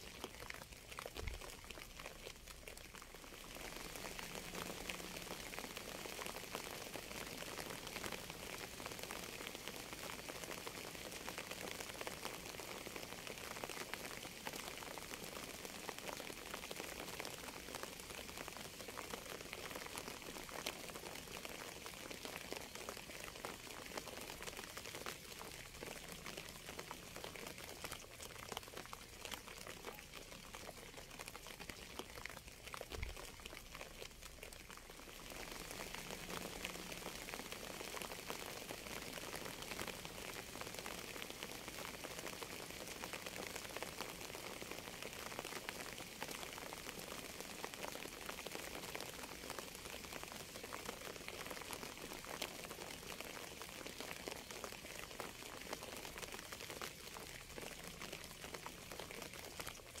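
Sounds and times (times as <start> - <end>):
rain falling: 0.0 - 60.0.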